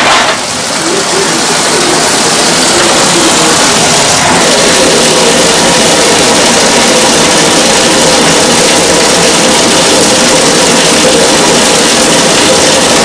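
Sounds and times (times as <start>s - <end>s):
faucet water rushing into tub: 0.0s - 13.0s.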